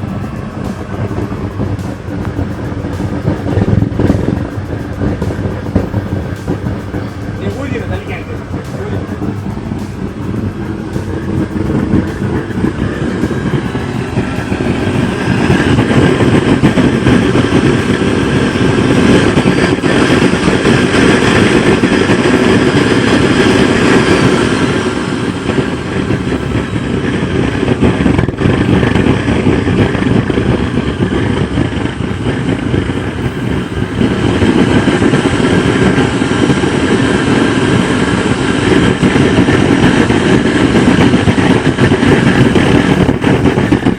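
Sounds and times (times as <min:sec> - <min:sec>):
oil burner flame roaring: 0:00.0 - 0:43.9.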